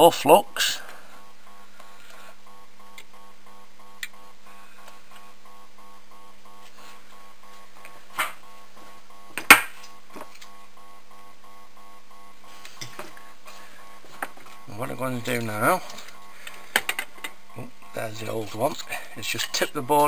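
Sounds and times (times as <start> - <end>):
pulsing electrical hum: 0.0 - 20.0.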